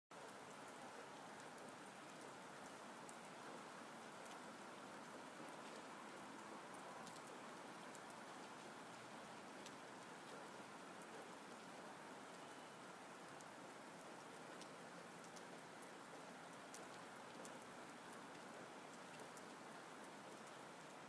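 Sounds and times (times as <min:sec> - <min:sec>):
faint water hiss with small ticks: 0:00.2 - 0:21.0.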